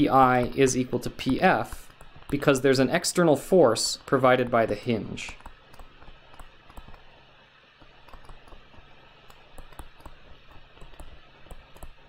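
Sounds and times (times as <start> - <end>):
stylus tapping on tablet screen: 0.2 - 2.6, 4.0 - 12.0.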